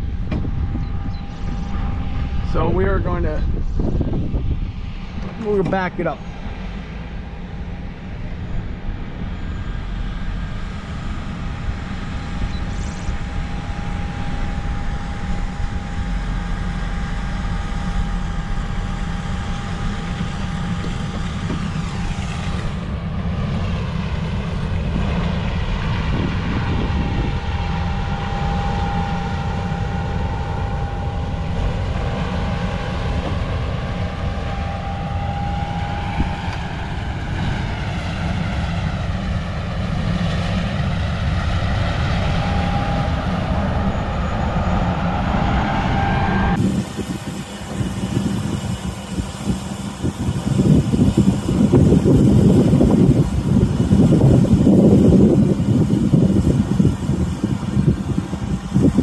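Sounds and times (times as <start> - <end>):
combine harvester drone: 0.0 - 59.0.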